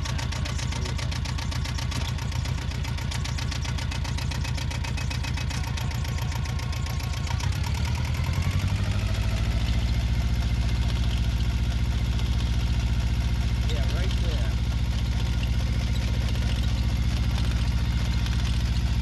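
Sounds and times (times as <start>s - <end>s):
diesel engine pulsing: 0.0s - 19.0s.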